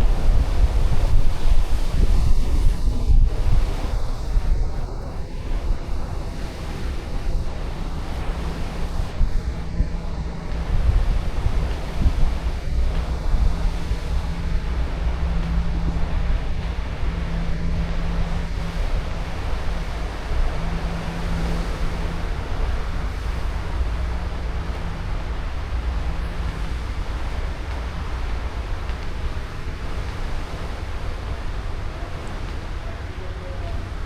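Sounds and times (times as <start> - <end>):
low machinery drone and hum: 0.0 - 34.0
rushing air noise: 0.0 - 34.0.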